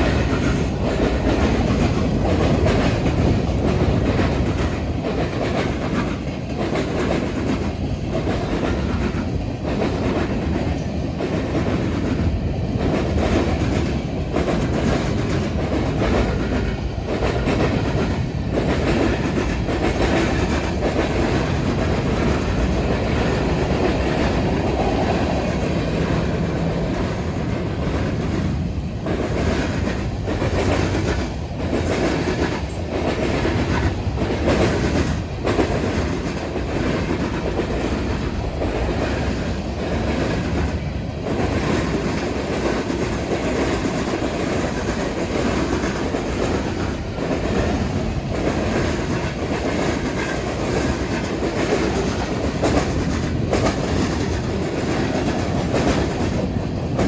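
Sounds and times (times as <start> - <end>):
train wheels clattering over crossing: 0.0 - 57.0.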